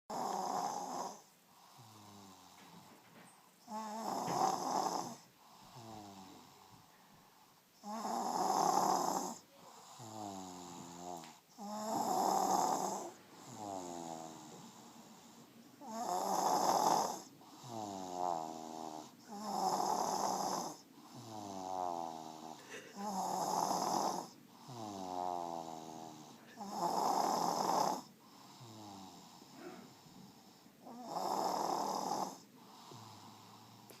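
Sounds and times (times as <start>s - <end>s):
baby snoring: 0.1s - 2.9s, 3.6s - 6.8s, 7.8s - 33.9s.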